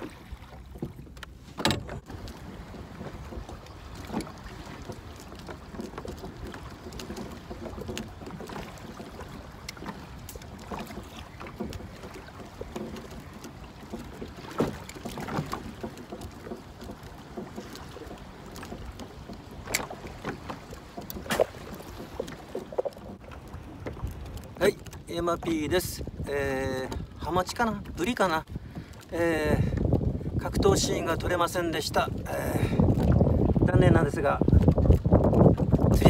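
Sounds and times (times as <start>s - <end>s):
water lapping against boat hull: 0.0s - 36.0s
wind rumbling on microphone: 0.0s - 36.0s.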